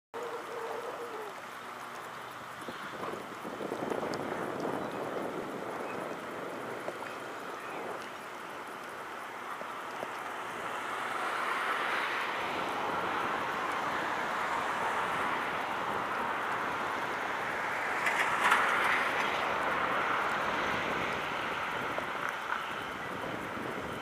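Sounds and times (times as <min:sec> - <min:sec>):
small choppy waves: 0:00.2 - 0:24.0
wind: 0:00.2 - 0:24.0.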